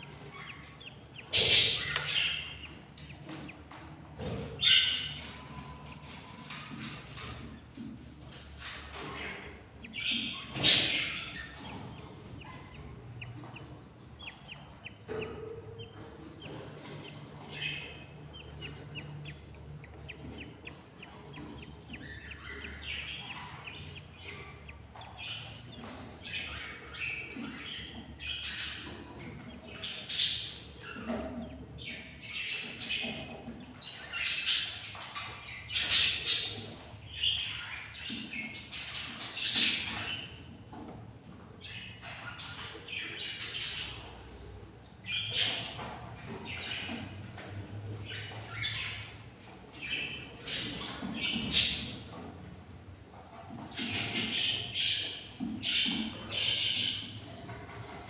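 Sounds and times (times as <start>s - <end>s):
budgerigars chirping: 0.0s - 52.4s, 53.0s - 58.0s.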